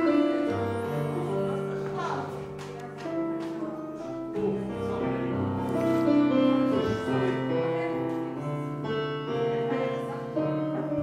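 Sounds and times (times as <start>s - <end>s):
digital piano playing chords: 0.0s - 11.0s.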